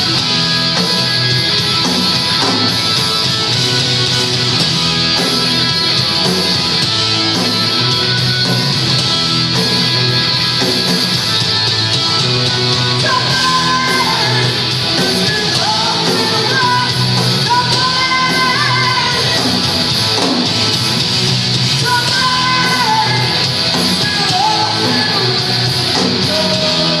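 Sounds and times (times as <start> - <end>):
live punk rock band: 0.0 - 27.0.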